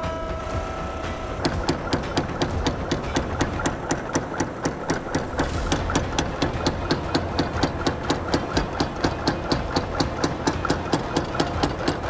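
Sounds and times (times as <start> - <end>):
hammer drive hum: 0.0 - 12.0
power hammer striking steel: 0.0 - 12.0.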